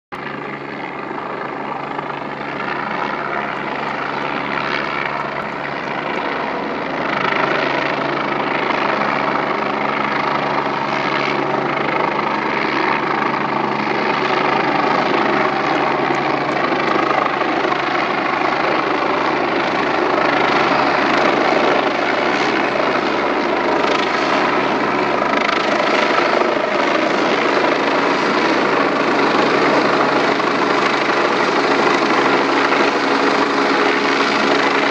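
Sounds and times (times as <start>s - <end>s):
helicopter flying: 0.1s - 34.9s.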